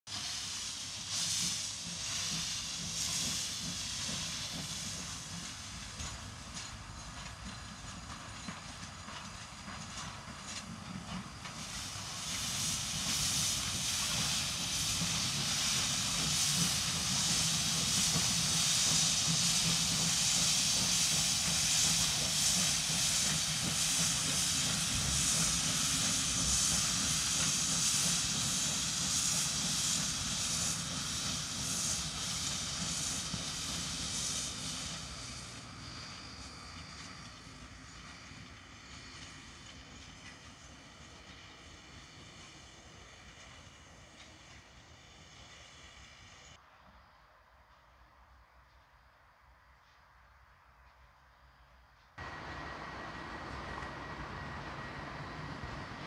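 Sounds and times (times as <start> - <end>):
steam hissing: 0.1 - 46.6, 52.2 - 56.0.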